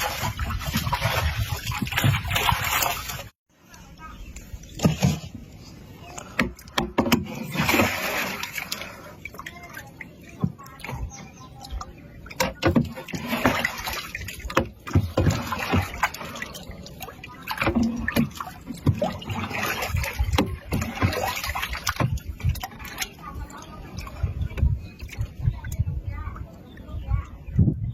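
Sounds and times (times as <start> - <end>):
water splashing against boat: 0.0 - 27.9.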